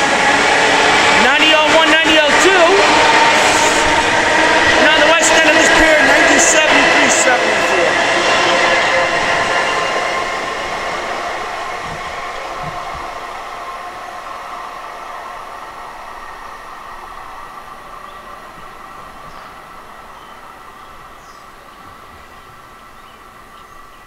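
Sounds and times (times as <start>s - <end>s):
electric train running away: 0.0s - 24.0s.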